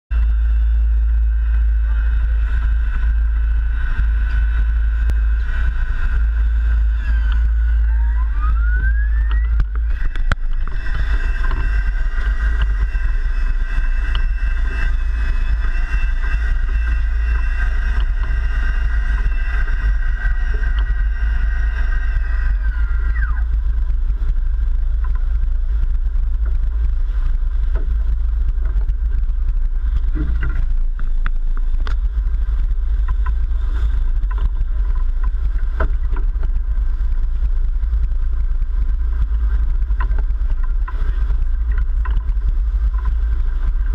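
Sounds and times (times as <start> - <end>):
boat engines rumbling: 0.0 - 43.9
high whine: 0.0 - 43.9
wind on microphone: 0.1 - 43.9.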